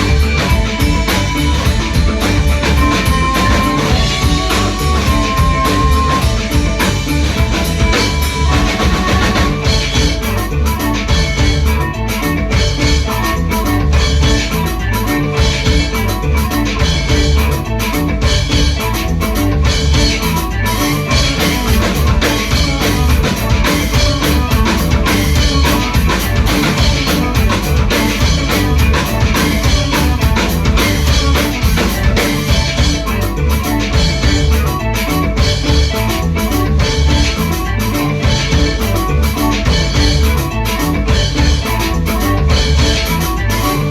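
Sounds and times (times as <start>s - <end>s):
loud band music: 0.0s - 43.9s.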